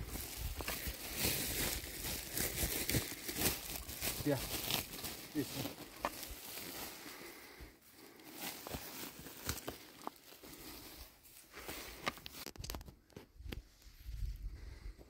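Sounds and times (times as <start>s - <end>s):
rustling and crunching: 0.0s - 14.2s.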